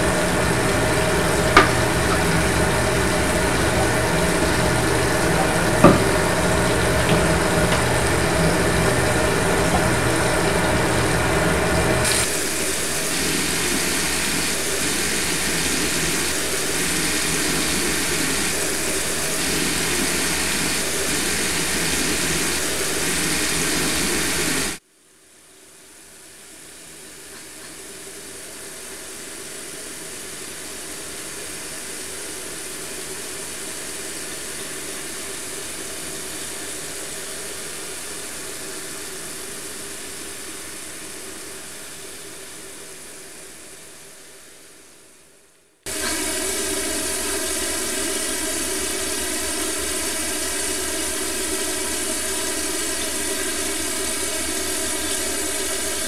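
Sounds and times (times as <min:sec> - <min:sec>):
steady loud hiss: 0:00.0 - 0:56.0.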